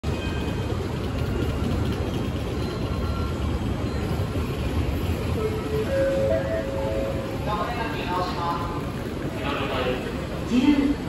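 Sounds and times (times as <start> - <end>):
low rumble of train station: 0.0 - 11.0.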